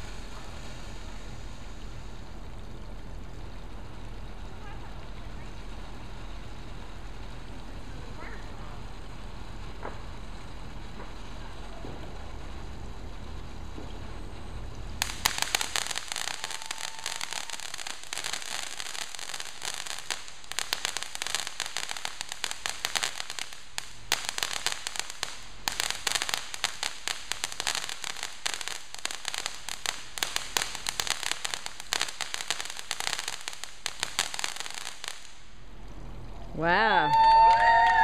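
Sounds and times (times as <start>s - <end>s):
firework crackling pops: 0.0s - 38.0s
firework fountain spraying sparks: 0.0s - 38.0s.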